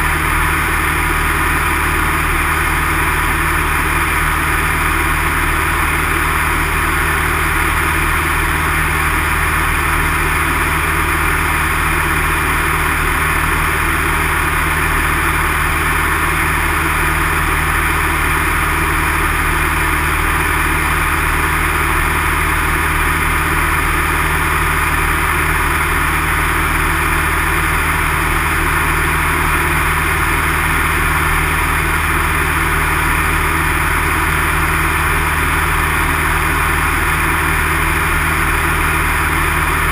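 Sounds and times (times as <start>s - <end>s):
propeller aircraft engine: 0.0s - 39.9s.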